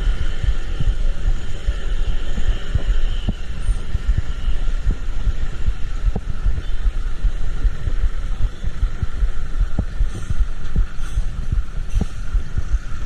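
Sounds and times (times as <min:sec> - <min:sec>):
low rumble with thumps: 0:00.0 - 0:13.0
steady hum: 0:00.0 - 0:13.0
wind buffeting microphone: 0:00.0 - 0:13.0.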